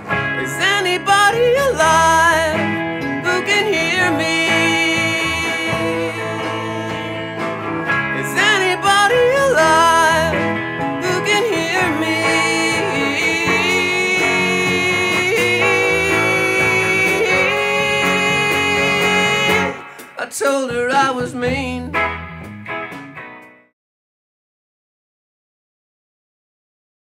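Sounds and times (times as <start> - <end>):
guitars playing: 0.0 - 23.7
man singing: 0.3 - 22.0.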